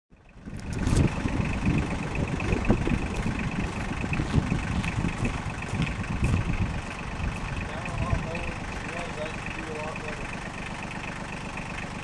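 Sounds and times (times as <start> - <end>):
engine idling with rough rumble: 0.1 - 12.0.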